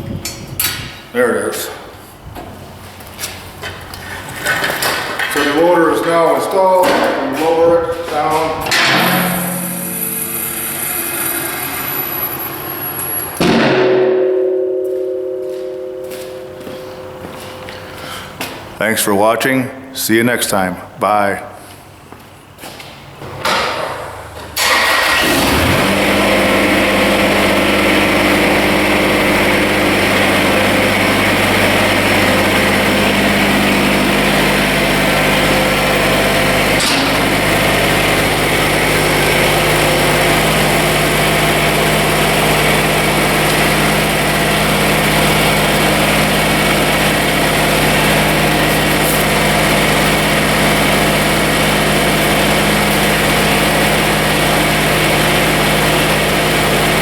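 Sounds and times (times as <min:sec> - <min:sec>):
tractor diesel engine starting: 0:02.6 - 0:18.8, 0:23.9 - 0:57.0.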